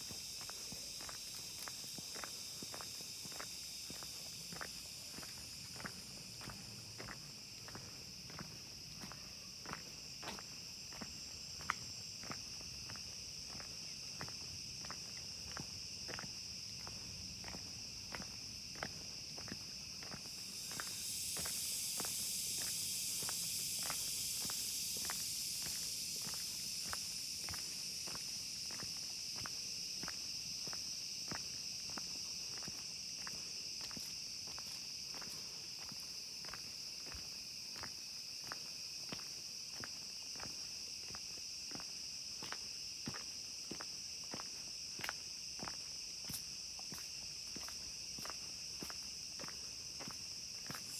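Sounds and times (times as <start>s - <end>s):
insect chorus drone: 0.0s - 50.9s.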